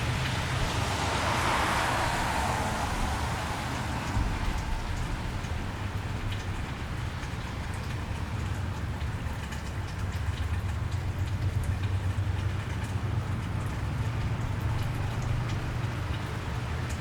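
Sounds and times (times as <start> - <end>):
steady rain on a wet street: 0.0 - 17.0
tyres hissing on wet road: 0.0 - 17.0.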